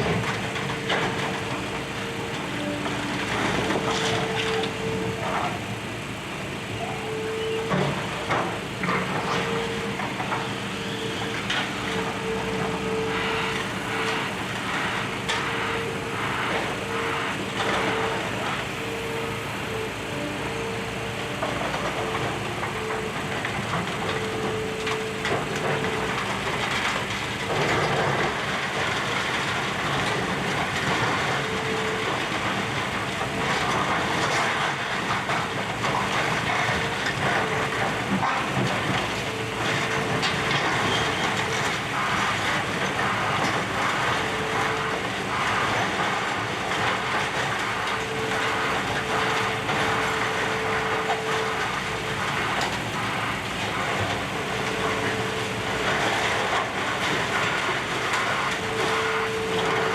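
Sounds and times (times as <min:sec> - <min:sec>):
excavator running: 0:00.0 - 0:59.9.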